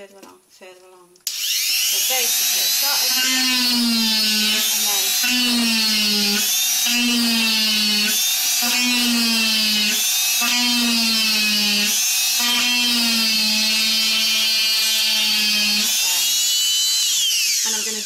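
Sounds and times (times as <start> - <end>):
electric drill grinding wood: 1.3 - 18.0.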